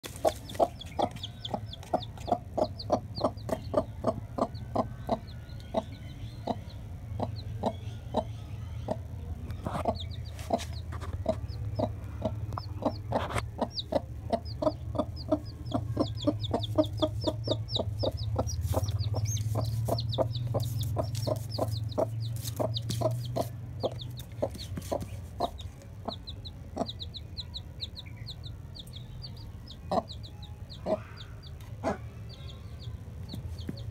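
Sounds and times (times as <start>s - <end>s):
hen clucking: 0.0s - 8.3s, 8.9s - 32.2s
chick peeping: 0.0s - 33.9s.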